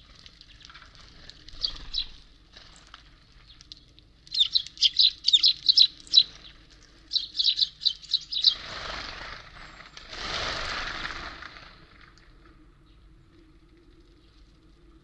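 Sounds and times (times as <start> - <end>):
songbirds chirping: 0.0 - 10.2, 12.1 - 15.0.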